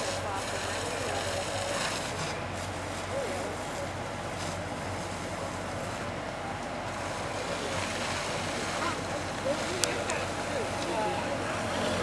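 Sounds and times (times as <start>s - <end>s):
fire rushing: 0.0s - 12.0s
low engine hum: 0.0s - 12.0s.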